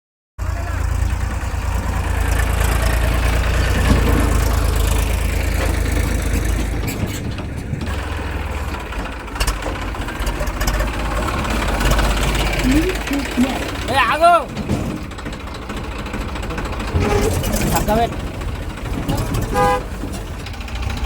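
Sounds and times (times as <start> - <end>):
diesel engine idling: 0.4 - 21.0.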